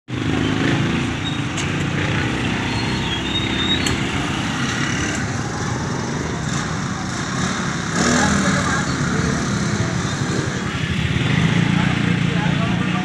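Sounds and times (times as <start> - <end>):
busy street din: 0.1 - 13.0
motorcycle engine running: 0.1 - 13.0.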